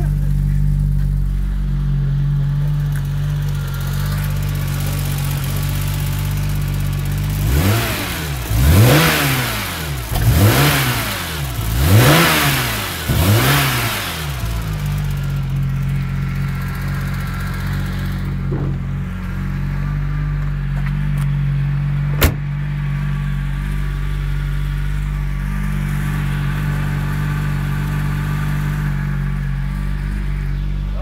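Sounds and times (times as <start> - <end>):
car engine idling: 0.0 - 31.0
engine revving: 0.0 - 31.0.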